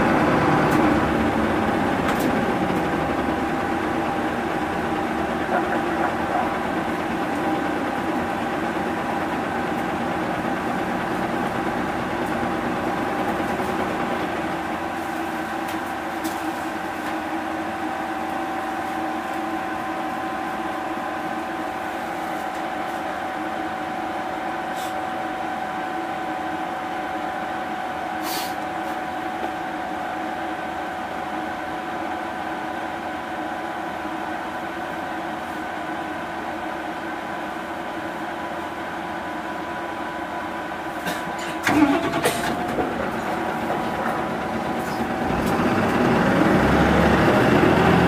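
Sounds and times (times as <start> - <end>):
bus engine running: 0.0 - 48.0.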